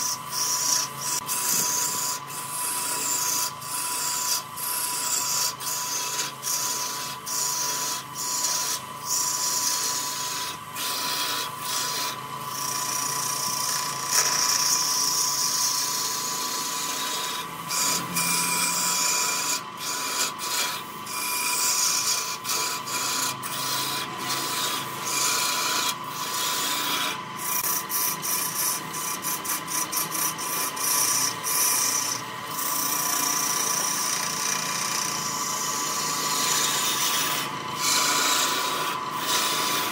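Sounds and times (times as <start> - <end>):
chisel cutting wood on lathe: 0.0 - 39.9
lathe motor whine: 0.0 - 39.9.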